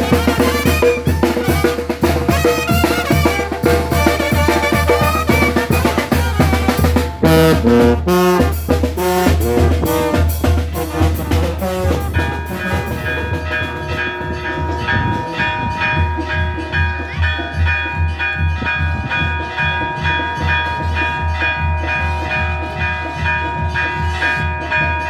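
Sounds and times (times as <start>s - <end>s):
drums and cymbal beat: 0.0s - 25.0s
sousaphone bass line: 0.0s - 25.0s
trumpets and trombones melody: 0.0s - 25.0s.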